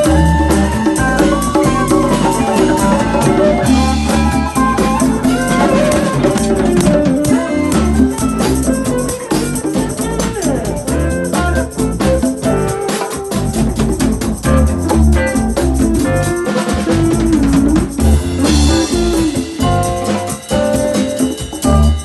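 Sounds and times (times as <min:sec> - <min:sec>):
deep bass notes: 0:00.0 - 0:12.8, 0:13.4 - 0:20.8
drum kit played busily: 0:00.0 - 0:22.0
guitar: 0:00.0 - 0:22.0.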